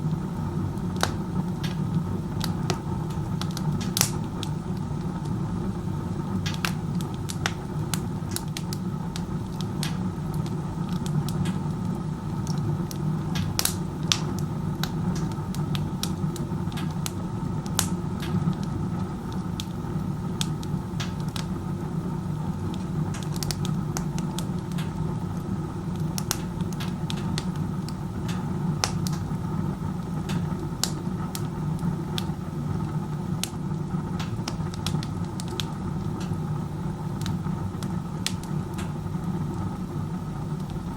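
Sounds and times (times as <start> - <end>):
firewood crackling and popping: 0.0 - 40.9
stove draft rushing: 0.0 - 40.9.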